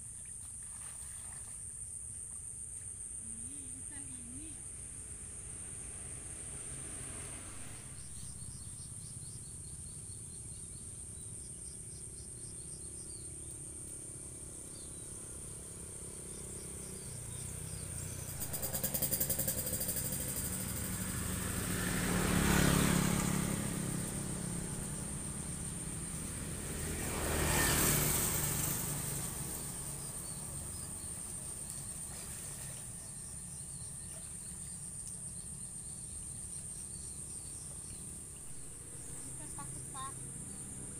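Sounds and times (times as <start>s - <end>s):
high insect drone: 0.0s - 40.9s
vehicle engine rumble: 1.8s - 40.9s.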